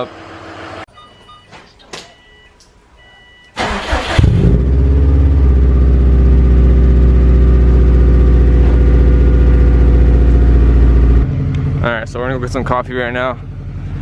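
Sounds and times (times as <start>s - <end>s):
car engine starting and idling: 2.2s - 14.0s.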